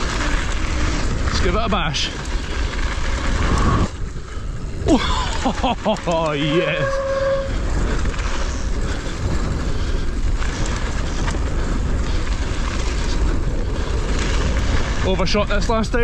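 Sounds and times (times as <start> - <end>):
bike tyres on dirt: 0.0 - 16.0
low rumble: 0.0 - 16.0
wind buffeting microphone: 0.0 - 16.0.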